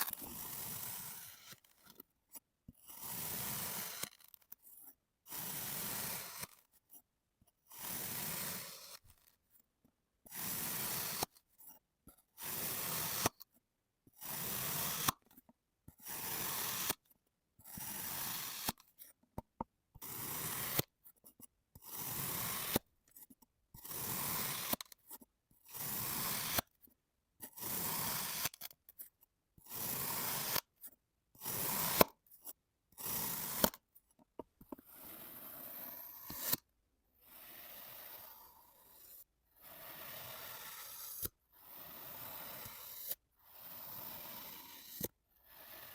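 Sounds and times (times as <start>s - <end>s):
blade cutting kinetic sand: 0.0s - 9.6s, 10.2s - 45.9s.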